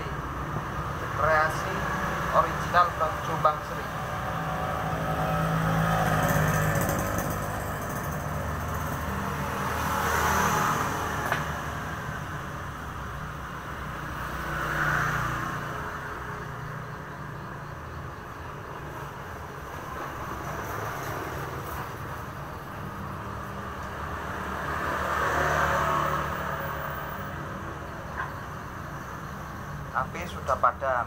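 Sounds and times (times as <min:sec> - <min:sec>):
motor traffic: 0:00.0 - 0:31.0
vehicles passing by: 0:00.0 - 0:31.0.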